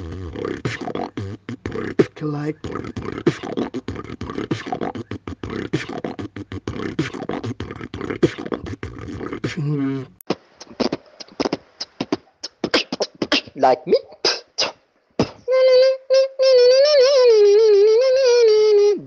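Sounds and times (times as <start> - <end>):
beatboxing: 0.0 - 19.0
pitched vocal tone: 0.0 - 19.0.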